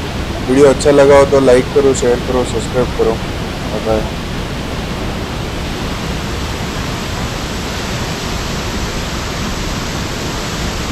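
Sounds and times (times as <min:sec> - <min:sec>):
waterfall rushing water: 0:00.0 - 0:10.9.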